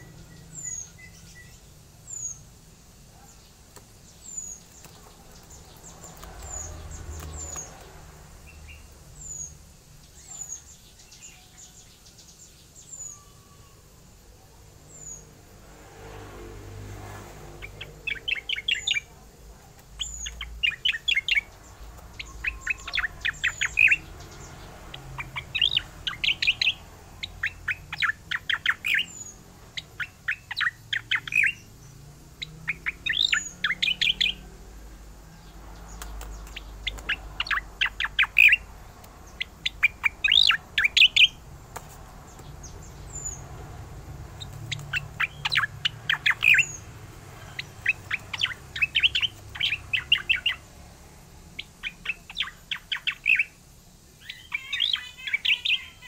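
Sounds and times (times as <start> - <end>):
bird singing trilled song: 0.0 - 13.9, 14.8 - 15.3, 17.4 - 41.6, 42.2 - 56.0.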